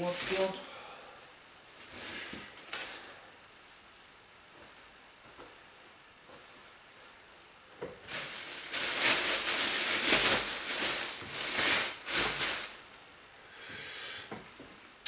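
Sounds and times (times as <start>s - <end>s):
clothes rustling and crinkling: 0.0s - 0.6s, 1.2s - 13.1s.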